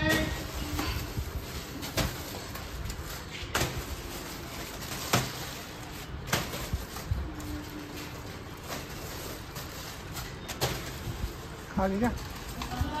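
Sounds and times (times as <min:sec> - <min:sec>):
plastic rustling: 0:00.0 - 0:13.0.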